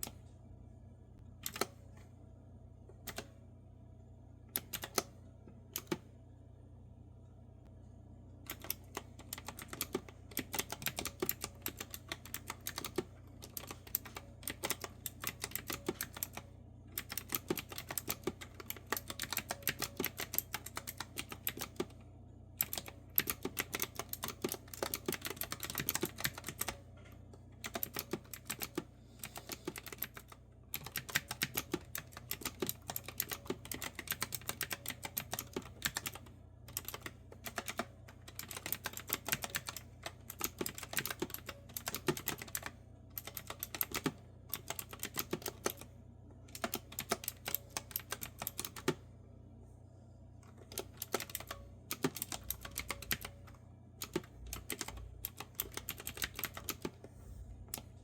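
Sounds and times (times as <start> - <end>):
faint low hum: 0.0 - 58.0
clicky keyboard typing: 1.4 - 1.8, 4.5 - 6.1, 8.5 - 22.0, 22.6 - 45.9, 46.5 - 49.0, 50.4 - 57.0.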